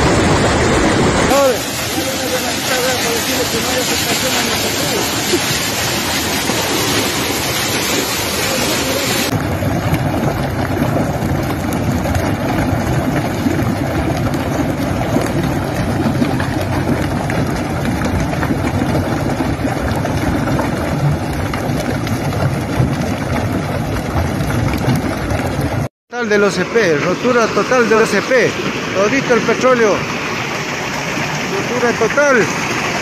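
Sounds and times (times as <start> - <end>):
water pouring over rocks: 0.0 - 33.0.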